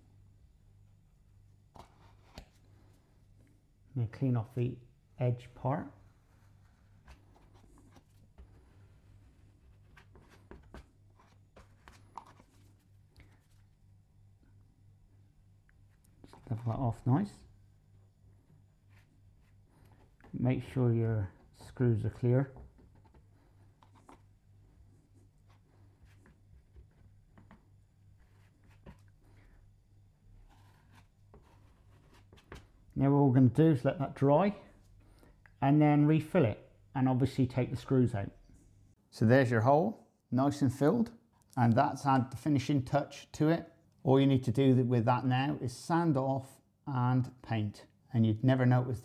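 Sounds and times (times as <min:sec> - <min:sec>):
low steady hum: 0:00.0 - 0:39.6.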